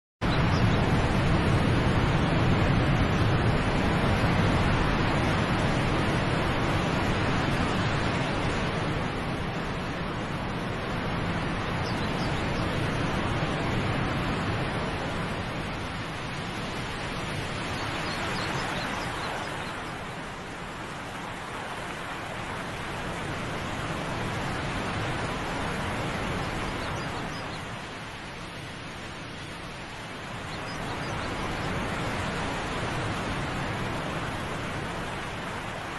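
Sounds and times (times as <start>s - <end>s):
waterfall rushing: 0.8s - 35.9s.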